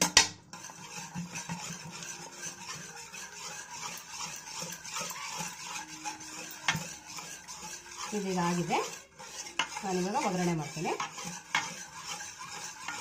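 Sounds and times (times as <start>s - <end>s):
whisk churning dal in a pot: 0.0s - 13.0s
whisk clinking against metal pot: 0.0s - 13.0s.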